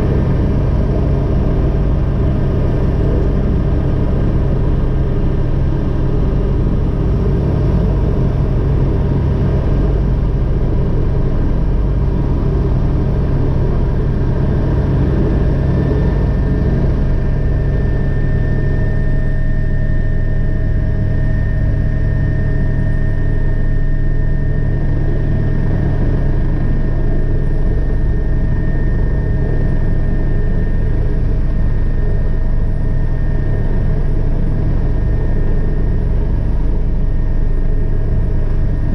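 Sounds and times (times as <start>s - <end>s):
faint high whine: 0.0s - 38.9s
helicopter engine and rotor rumble: 0.0s - 38.9s.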